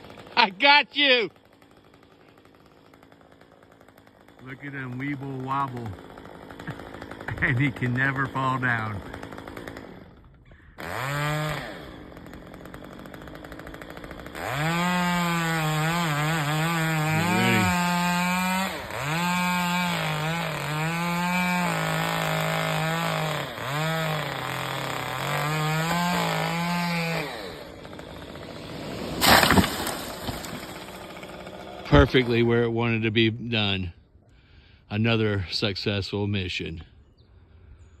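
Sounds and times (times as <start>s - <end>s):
chainsaw cutting wood: 0.0s - 32.8s.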